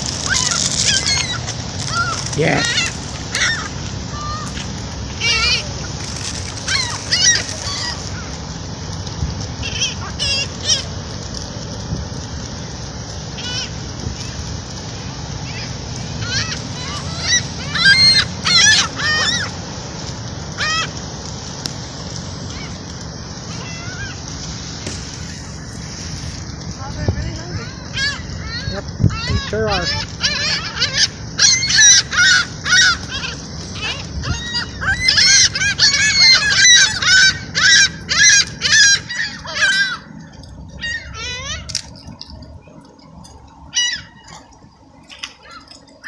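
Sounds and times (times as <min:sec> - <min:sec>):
seagulls squawking: 0:00.0 - 0:08.8, 0:09.4 - 0:11.6, 0:12.4 - 0:26.6, 0:27.2 - 0:46.0.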